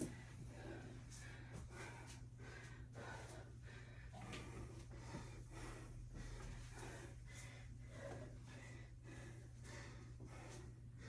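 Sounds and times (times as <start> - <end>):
steady low hum: 0.0 - 11.0
woman panting hard: 0.0 - 11.0.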